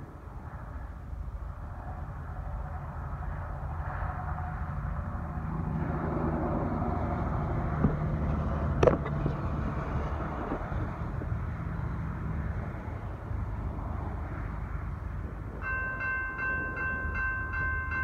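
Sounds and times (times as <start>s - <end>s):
truck engine rumble passing: 0.0s - 18.0s.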